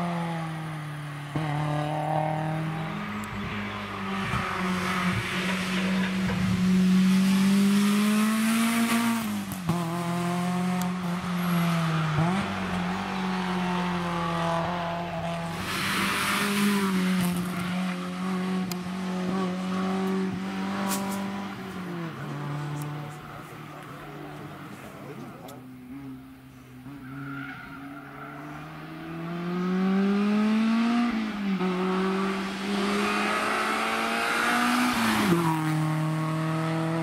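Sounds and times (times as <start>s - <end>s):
rally car engine at full throttle: 0.0s - 37.0s.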